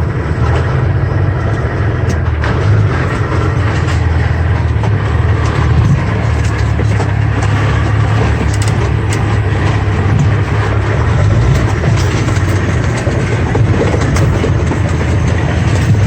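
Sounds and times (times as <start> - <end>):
diesel truck engine driving: 0.0 - 16.0
road noise: 0.0 - 16.0
light knocks and rattles: 0.4 - 16.0.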